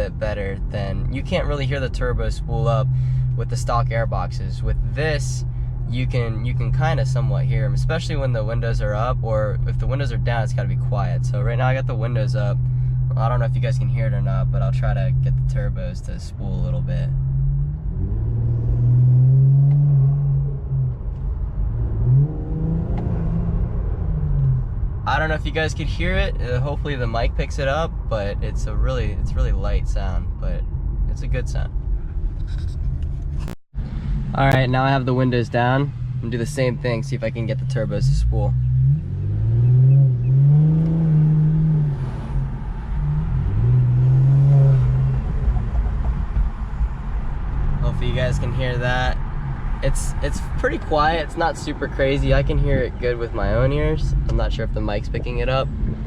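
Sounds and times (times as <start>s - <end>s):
car exhaust accelerating from inside: 0.0s - 56.0s.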